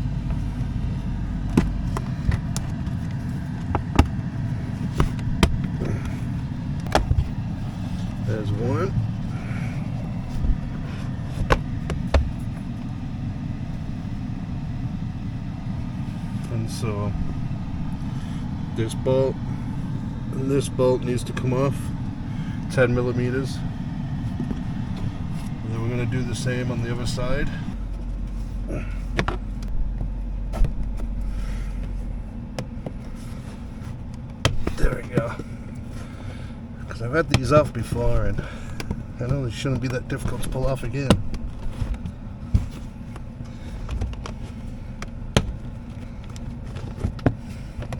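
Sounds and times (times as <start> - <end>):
steady low hum: 0.0 - 47.9
steady low rumble: 0.0 - 47.9.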